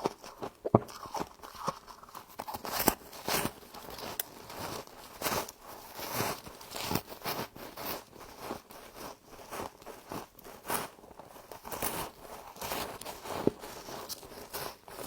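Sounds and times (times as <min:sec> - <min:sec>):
person chewing crunchy frost: 0:00.0 - 0:15.0.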